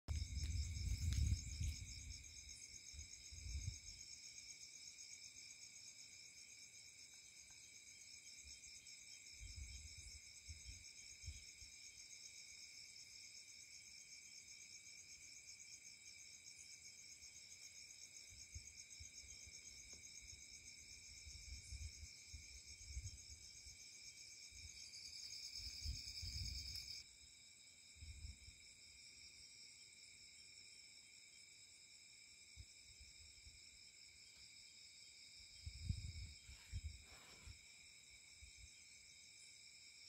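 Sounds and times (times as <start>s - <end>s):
insects trilling: 0.1s - 40.0s.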